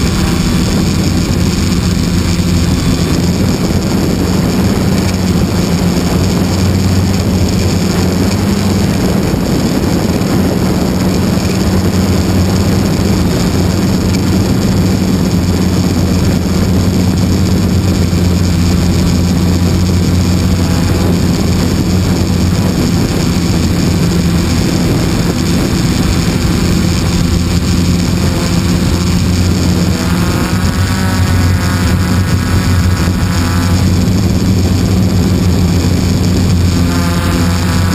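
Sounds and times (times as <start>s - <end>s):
propellers and motor droning: 0.0s - 37.9s.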